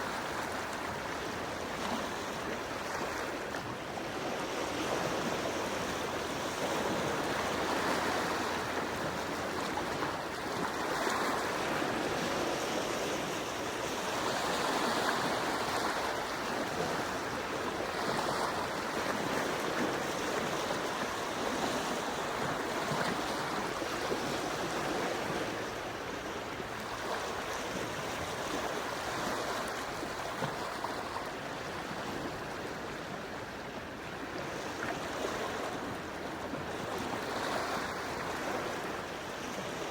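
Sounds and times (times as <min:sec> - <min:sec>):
sea waves lapping ashore: 0:00.0 - 0:39.9.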